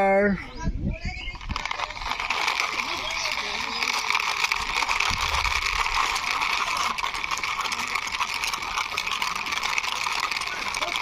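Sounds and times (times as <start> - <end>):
toy car wheels rolling and scraping: 1.0 - 11.0.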